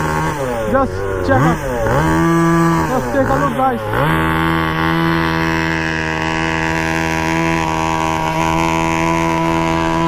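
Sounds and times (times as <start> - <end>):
small two-stroke engine high revs: 0.0 - 10.0.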